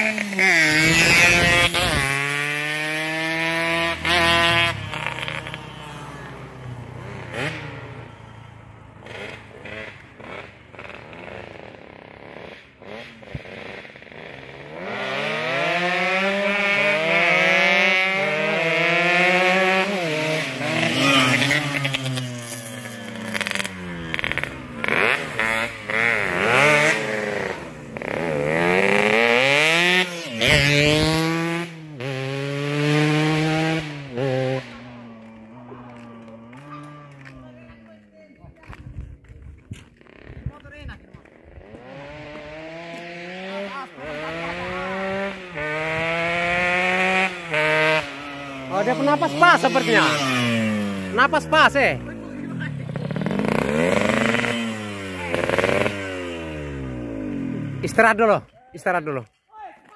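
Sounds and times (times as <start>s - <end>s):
motorcycles revving and passing: 0.0s - 59.2s.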